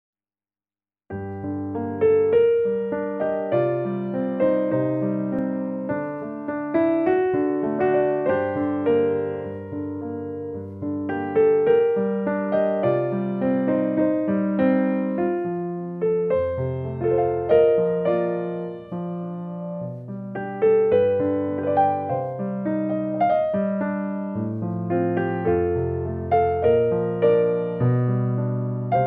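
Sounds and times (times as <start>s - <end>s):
piano music: 1.1s - 29.0s.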